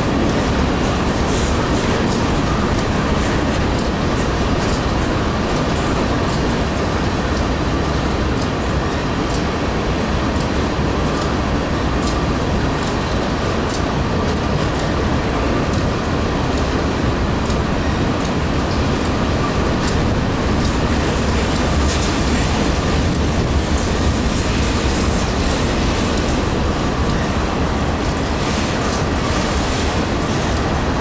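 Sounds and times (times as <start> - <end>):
train wheels rumbling on rails: 0.0 - 31.0
wheels clicking over rail joints: 0.1 - 31.0.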